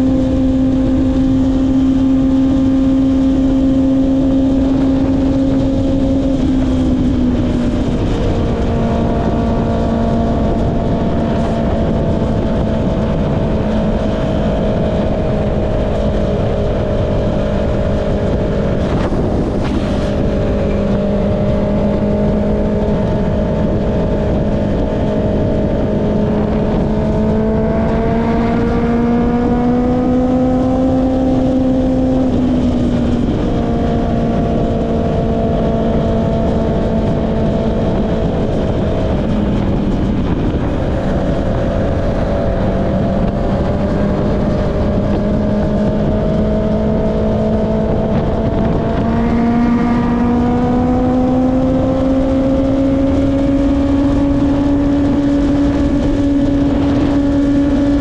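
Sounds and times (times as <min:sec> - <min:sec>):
motorcycle engine cruising: 0:00.0 - 0:58.0
wind on microphone: 0:00.0 - 0:58.0.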